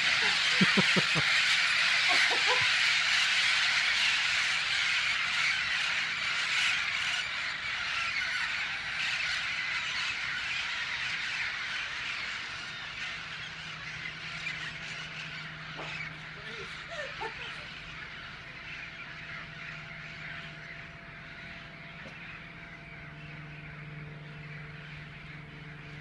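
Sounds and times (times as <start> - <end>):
parrots squawking: 0.0 - 23.6.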